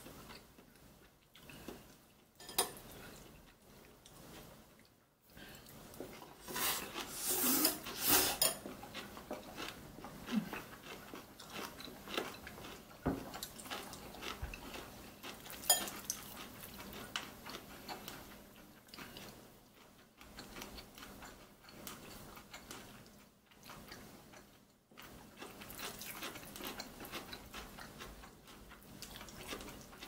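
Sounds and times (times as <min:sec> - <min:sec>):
person chewing noodles: 0:00.0 - 0:30.0.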